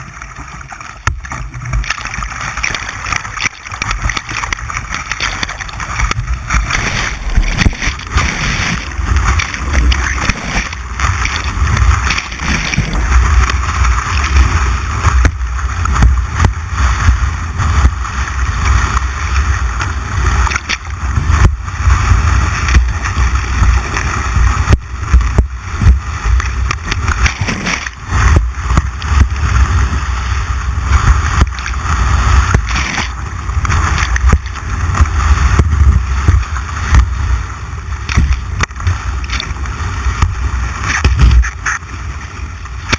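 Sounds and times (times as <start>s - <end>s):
white water rushing: 0.0s - 42.9s
wind buffeting microphone: 3.6s - 42.9s.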